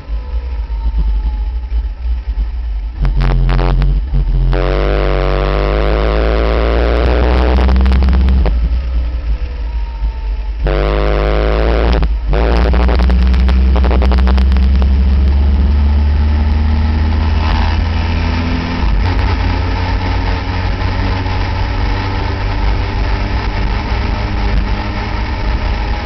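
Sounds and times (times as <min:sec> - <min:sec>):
race car engine revving: 0:03.0 - 0:08.9, 0:10.6 - 0:26.0.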